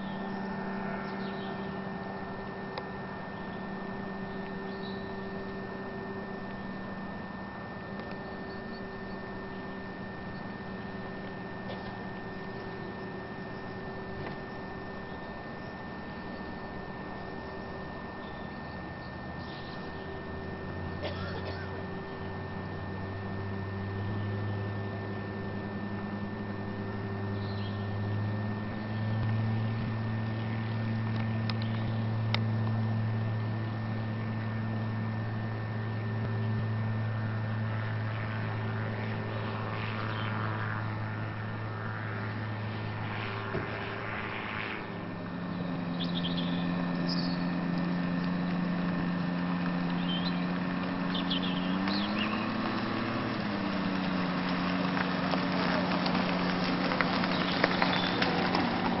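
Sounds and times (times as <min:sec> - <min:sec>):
gyrocopter engine and propeller: 0:00.0 - 0:59.0.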